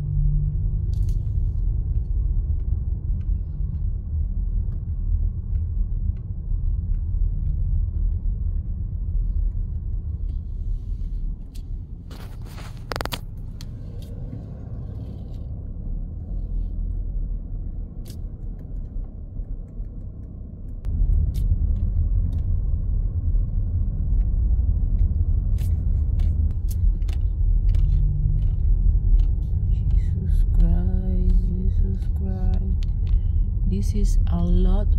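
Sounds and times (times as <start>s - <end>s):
car cabin rumble: 0.0s - 34.9s.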